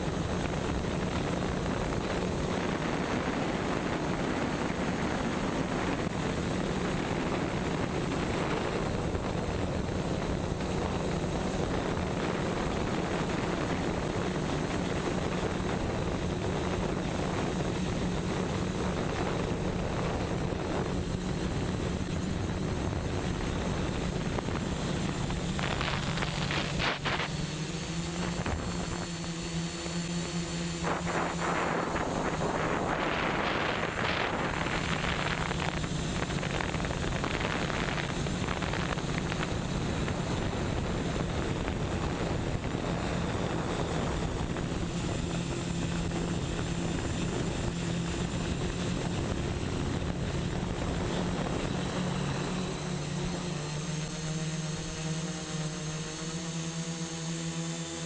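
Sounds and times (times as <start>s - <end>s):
drone motors droning hum: 0.0s - 58.0s
propeller rushing hiss: 0.0s - 58.0s.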